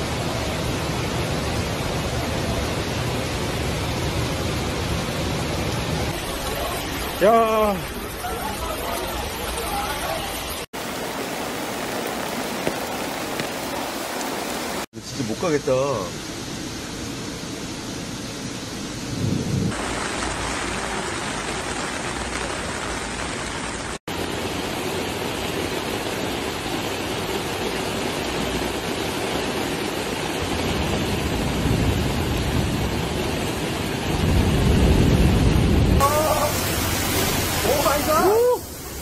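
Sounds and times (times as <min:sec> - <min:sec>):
floodwater rushing: 0:00.0 - 0:39.0
torrential rain pouring: 0:00.0 - 0:39.0.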